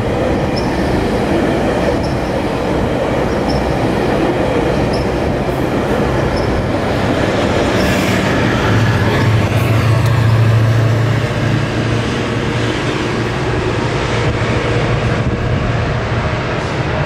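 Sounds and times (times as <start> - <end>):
diesel locomotive engine drone: 0.0 - 17.0
train rail noise: 0.0 - 17.0.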